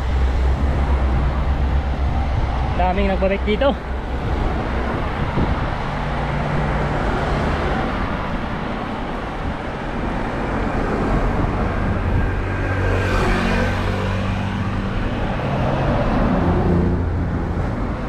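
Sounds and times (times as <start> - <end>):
traffic rush: 0.0 - 18.0.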